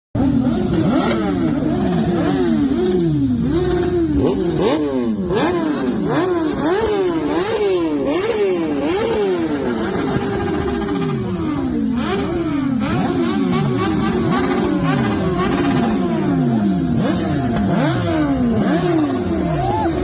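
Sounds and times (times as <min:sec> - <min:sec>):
motorcycle engine revving: 0:00.2 - 0:20.0.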